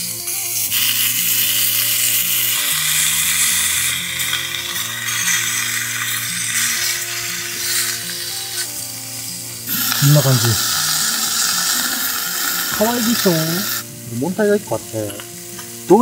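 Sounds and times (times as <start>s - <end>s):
background music: 0.0s - 16.0s
bacon sizzling in a pan: 0.0s - 16.0s.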